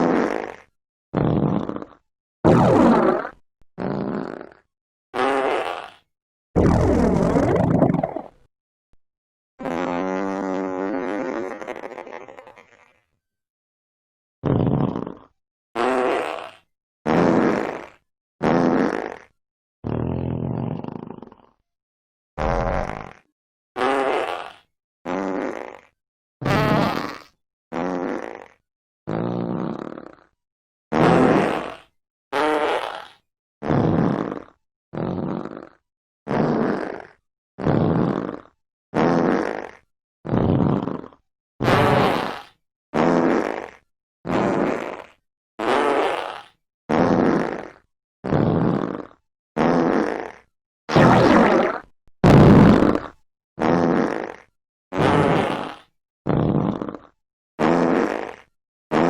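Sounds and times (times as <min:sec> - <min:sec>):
fart sound effects: 0:00.0 - 0:08.5, 0:09.6 - 0:13.1, 0:14.4 - 0:21.5, 0:22.4 - 0:59.0.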